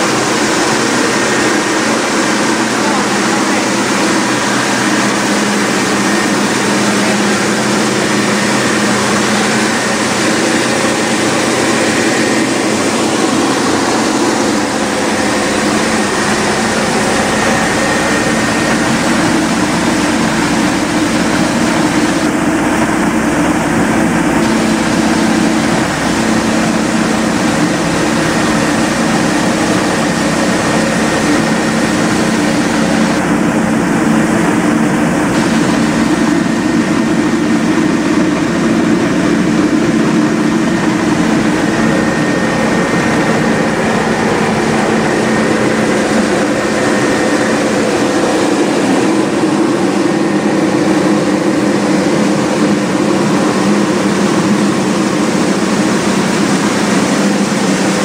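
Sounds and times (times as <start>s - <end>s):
machinery humming with hiss: 0.0s - 58.0s.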